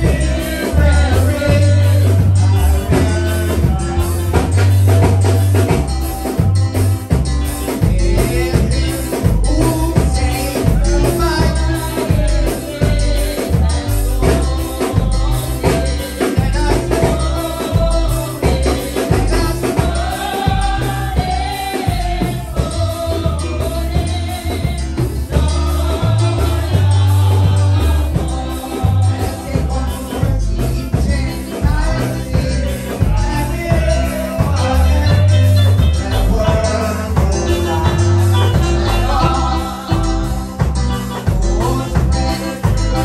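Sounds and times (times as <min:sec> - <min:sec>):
gospel singing over percussion: 0:00.0 - 0:43.0.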